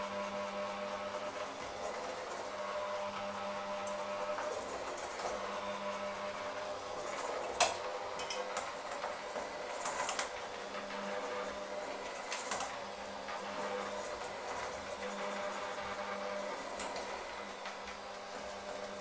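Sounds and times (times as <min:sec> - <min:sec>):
electric hand mixer running: 0:00.0 - 0:19.0.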